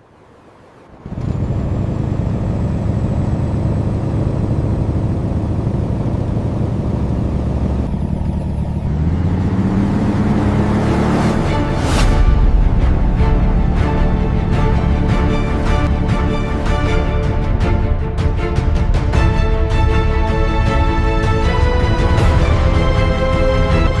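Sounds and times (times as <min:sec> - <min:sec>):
truck engine rumbling and revving: 0:00.1 - 0:24.0.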